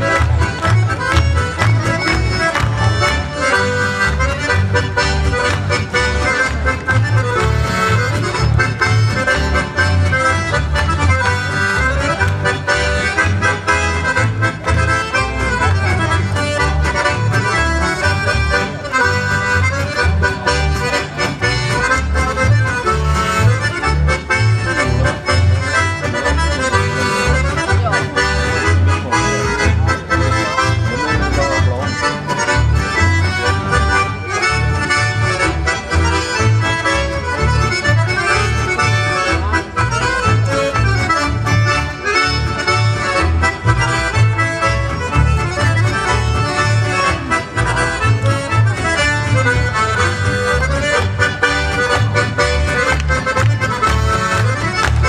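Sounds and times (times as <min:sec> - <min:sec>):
accordions playing a tune: 0:00.0 - 0:55.0
double bass: 0:00.0 - 0:55.0
guitar: 0:00.0 - 0:55.0.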